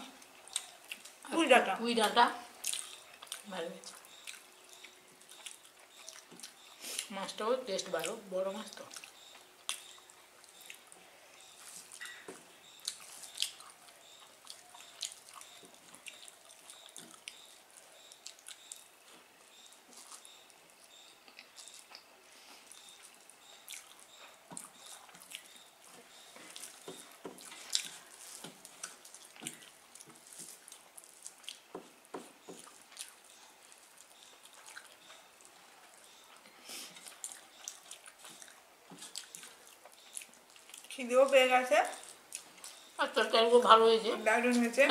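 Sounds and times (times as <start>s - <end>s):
people chewing: 0.0s - 1.3s, 2.0s - 44.9s
fingers mixing food on metal plates: 0.0s - 44.9s.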